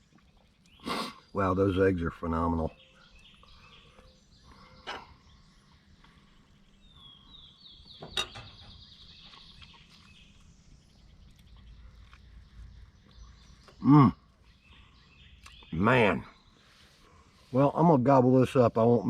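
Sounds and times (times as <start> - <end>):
quiet outdoor ambience: 0.0 - 19.0.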